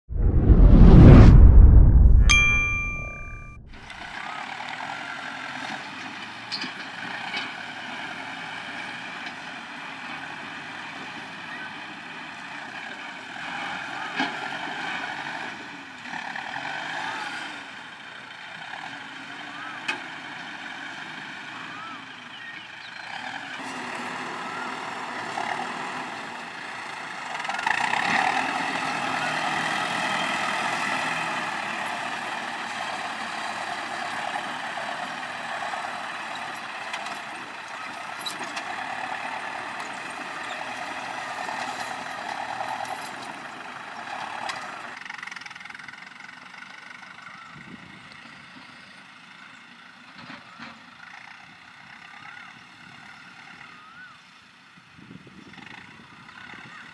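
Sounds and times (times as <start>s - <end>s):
tractor diesel engine under load: 4.0s - 53.6s.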